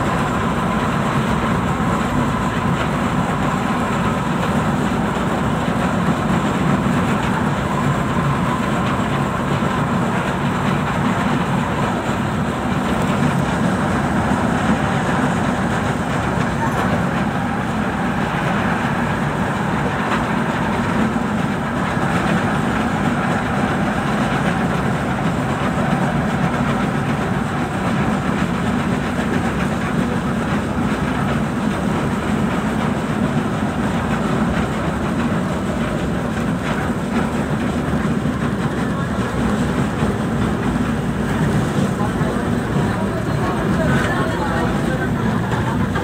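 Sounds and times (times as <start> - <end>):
light-rail car wheels on rails: 0.0 - 46.0.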